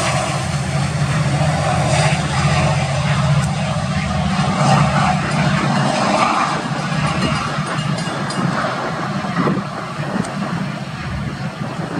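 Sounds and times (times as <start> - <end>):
locomotive diesel engine pulsing: 0.0 - 11.4.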